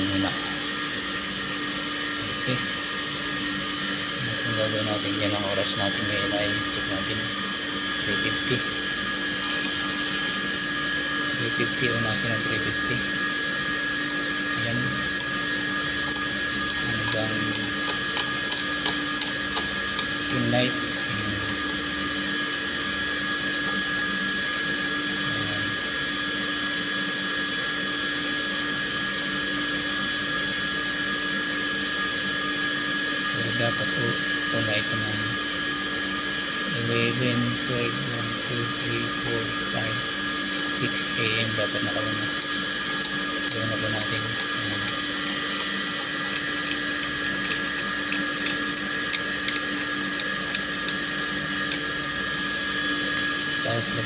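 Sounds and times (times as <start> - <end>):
electric fan whirring: 0.0 - 54.0
steady electrical hum: 0.0 - 54.0.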